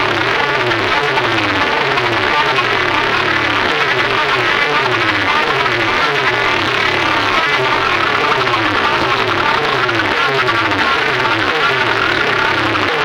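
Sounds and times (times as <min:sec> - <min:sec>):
buzzing tone falling in pitch: 0:00.0 - 0:13.0
loud distorted electronic music: 0:00.0 - 0:13.0.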